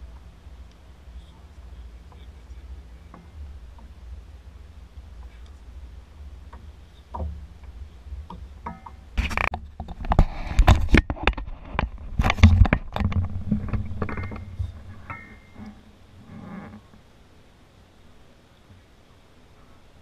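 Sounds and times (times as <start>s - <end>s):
knocks and clatter in a kayak: 0.0s - 17.0s.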